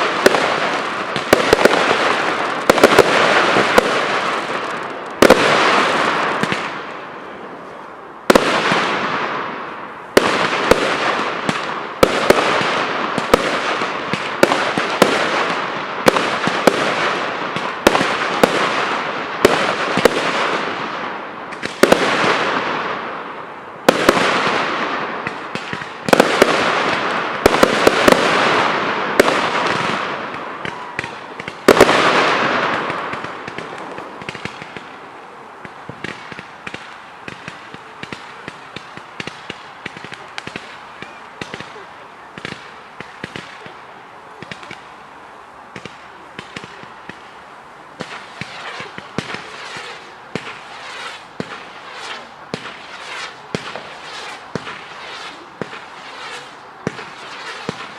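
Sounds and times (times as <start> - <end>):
crackling hissing firework tails: 0.0 - 57.9.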